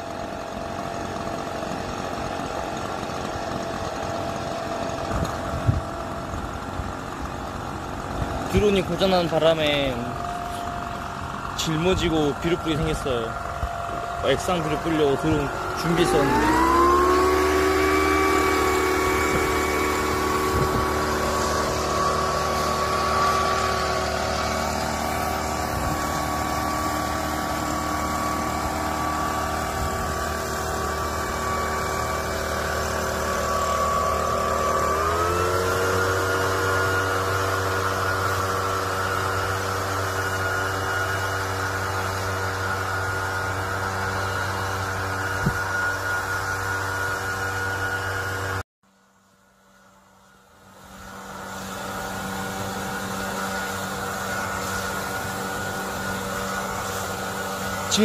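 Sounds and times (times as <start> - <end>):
engine-driven blower running: 0.0 - 58.0
granular fertilizer blowing: 0.0 - 58.0.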